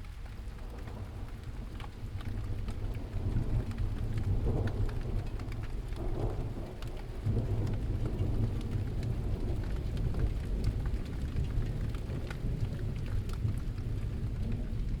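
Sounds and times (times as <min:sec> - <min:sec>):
low rumble of thunder: 0:00.0 - 0:15.0
raindrop ticks: 0:00.0 - 0:15.0
steady rain: 0:00.0 - 0:15.0.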